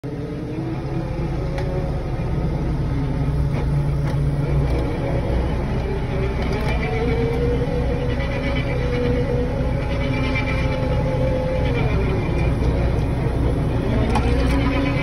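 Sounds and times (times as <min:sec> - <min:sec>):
excavator diesel engine: 0:00.0 - 0:15.0
hydraulic auger whine: 0:00.0 - 0:15.0.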